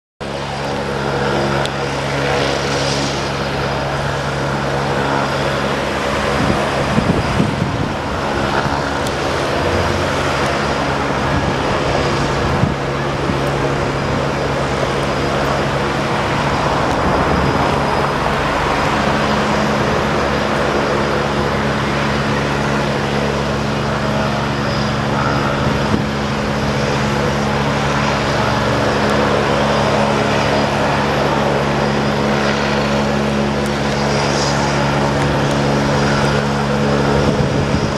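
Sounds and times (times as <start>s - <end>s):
helicopter engine and rotor: 0.2s - 37.9s.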